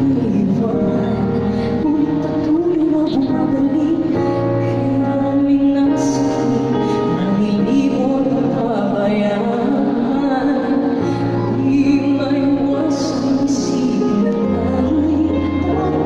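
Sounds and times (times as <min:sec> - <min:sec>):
woman singing into microphone: 0:00.0 - 0:16.0.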